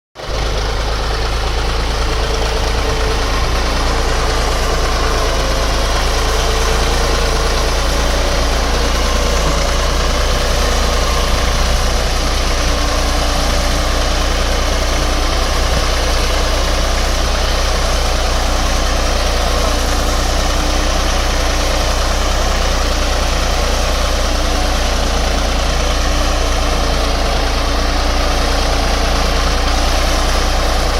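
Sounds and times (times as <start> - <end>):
plough pulling through soil: 0.2 - 30.9
tractor diesel engine running: 0.2 - 30.9.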